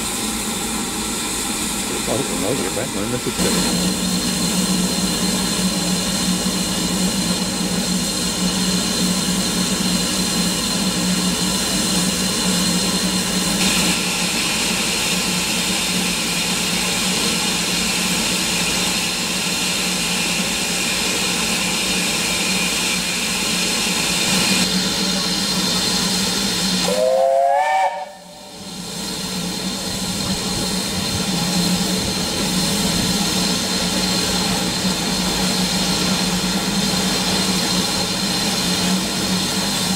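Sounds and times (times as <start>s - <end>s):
higher steam hiss: 0.0s - 39.9s
steam hissing: 0.0s - 39.9s.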